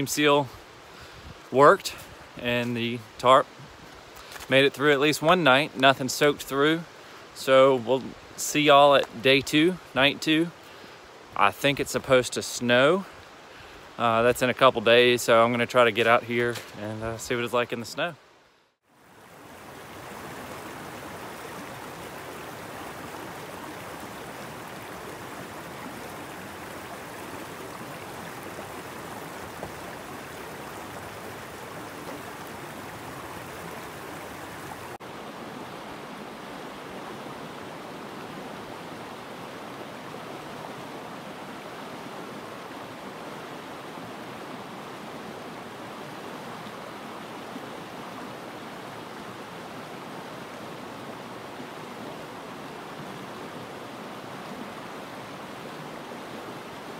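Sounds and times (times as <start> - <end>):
creek rushing over stones: 0.0 - 56.9.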